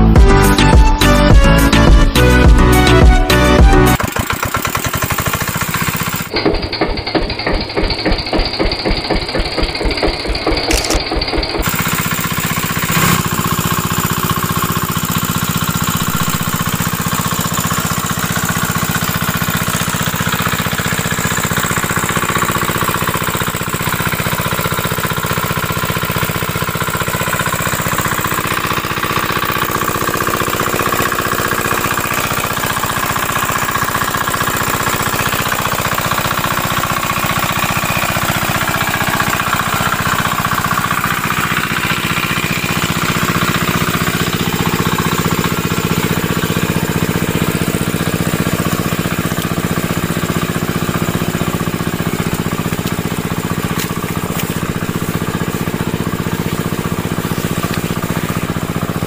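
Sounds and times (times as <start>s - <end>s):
toy engine water pump chugging: 3.9s - 59.0s.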